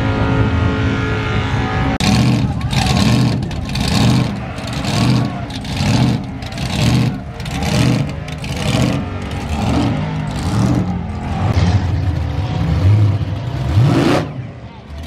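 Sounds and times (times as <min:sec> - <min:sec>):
engines revving in blips: 0:02.0 - 0:15.0.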